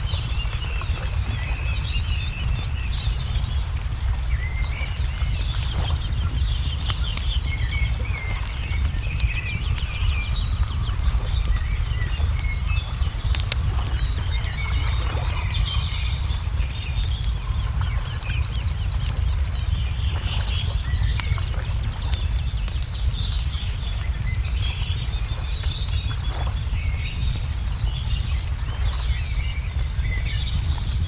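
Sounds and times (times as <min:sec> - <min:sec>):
small birds chirping: 0:00.0 - 0:31.0
steady low rumble: 0:00.0 - 0:31.0
wood fire crackling and popping: 0:00.0 - 0:31.0.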